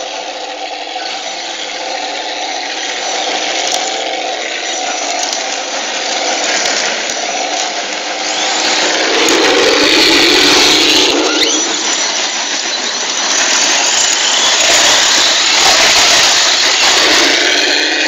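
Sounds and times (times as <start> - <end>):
electric motor whine: 0.0 - 18.0
gravel spraying under tyres: 0.0 - 18.0.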